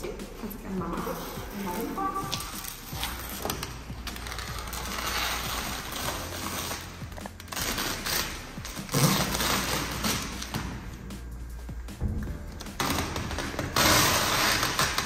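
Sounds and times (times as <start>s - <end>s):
tape tearing through vinyl film: 1.1s - 10.8s, 12.5s - 15.0s.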